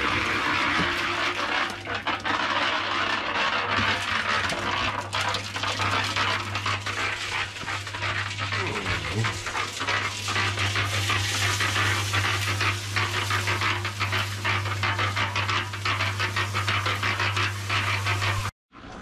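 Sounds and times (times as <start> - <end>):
gravel churning in drum: 0.0 - 18.5.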